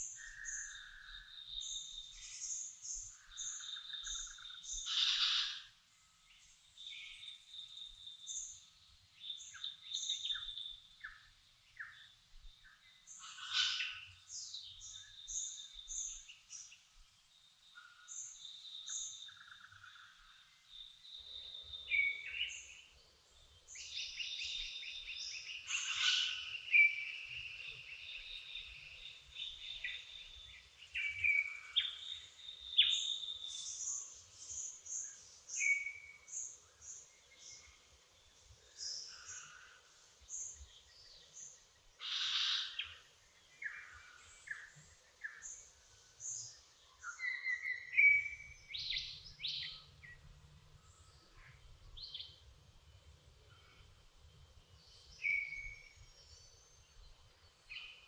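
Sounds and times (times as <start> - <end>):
birds singing and calling: 0.0 - 5.7, 6.3 - 16.9, 17.8 - 37.8, 38.7 - 50.2, 50.8 - 52.5, 54.7 - 58.0.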